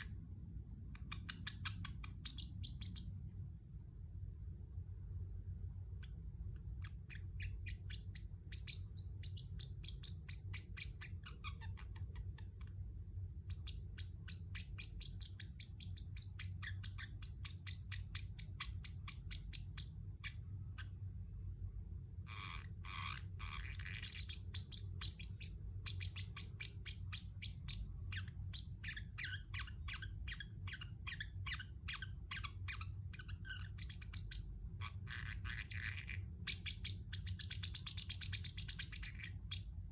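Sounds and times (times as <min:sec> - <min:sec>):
low steady hum: 0:00.0 - 0:39.9
parrotlet chirping: 0:00.9 - 0:03.2, 0:06.0 - 0:12.8, 0:13.4 - 0:21.0, 0:22.3 - 0:39.9.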